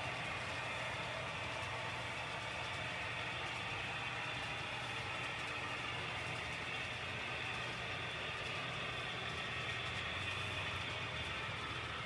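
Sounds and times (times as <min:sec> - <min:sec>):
model train hum: 0:00.0 - 0:12.0.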